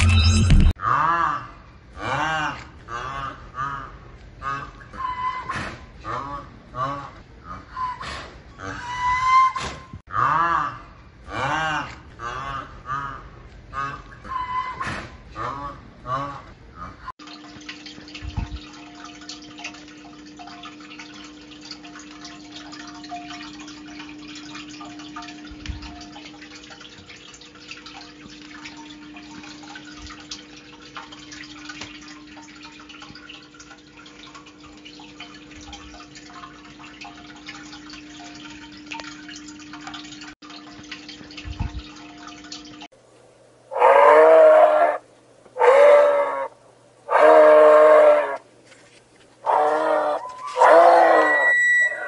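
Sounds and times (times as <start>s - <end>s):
water trickling and dripping: 1.6s - 52.0s.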